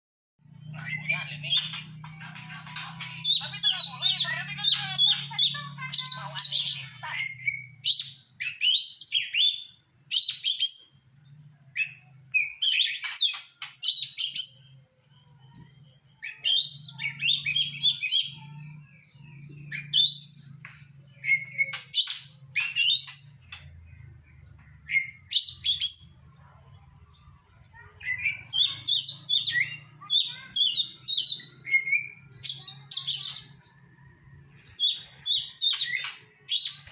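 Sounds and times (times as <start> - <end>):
songbird singing chirps and whistles: 0.5 - 26.4, 27.0 - 36.9.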